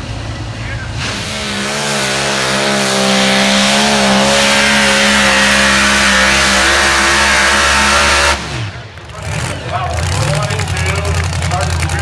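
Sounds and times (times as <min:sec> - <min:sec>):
pulling vehicle engine under load: 0:00.0 - 0:12.0.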